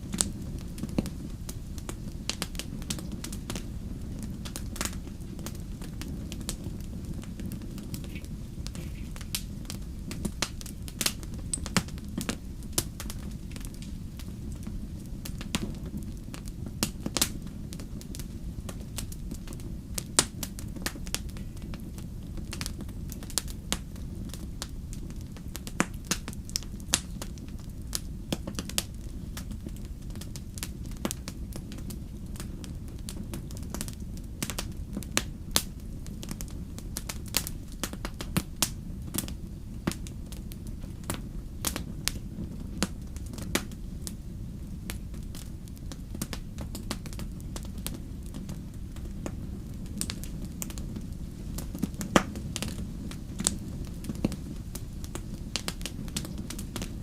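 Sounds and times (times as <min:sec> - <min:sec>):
low rumble of fire: 0:00.0 - 0:57.0
wood fire crackling and popping: 0:00.0 - 0:57.0.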